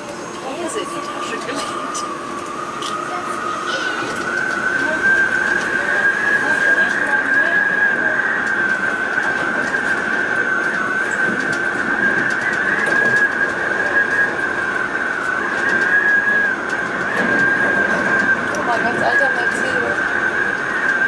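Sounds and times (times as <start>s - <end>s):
monorail car whine and rumble: 0.0s - 21.0s.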